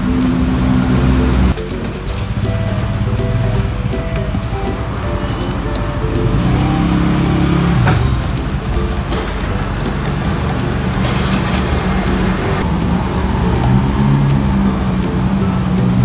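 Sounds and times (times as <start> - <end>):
road traffic: 0.0 - 16.0
vehicle engine humming: 0.0 - 16.0.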